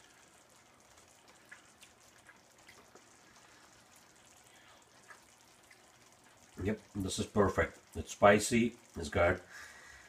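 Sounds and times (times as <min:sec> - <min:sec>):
soup simmering with pops: 0:00.0 - 0:10.0.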